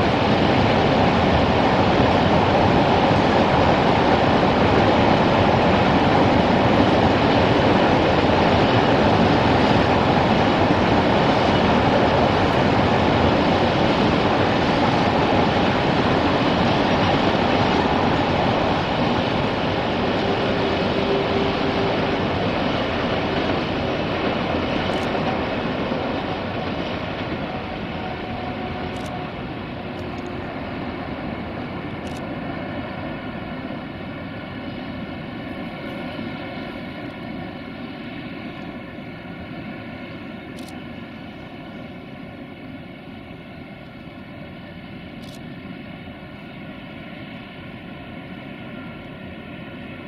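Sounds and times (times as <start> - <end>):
freight train wheels on rail: 0.0 - 50.0.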